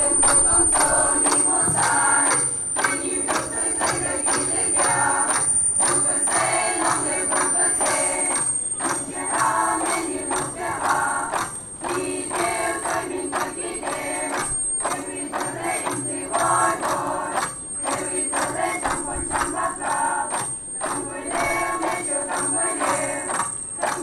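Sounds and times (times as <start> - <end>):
women chanting: 0.0 - 24.0.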